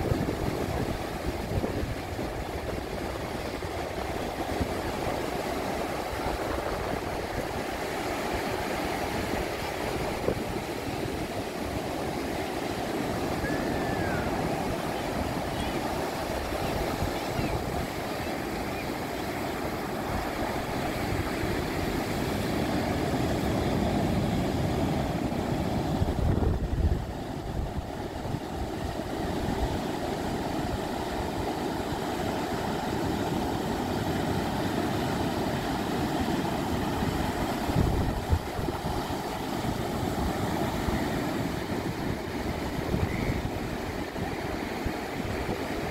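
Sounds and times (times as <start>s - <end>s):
ocean surf breaking: 0.0s - 45.9s.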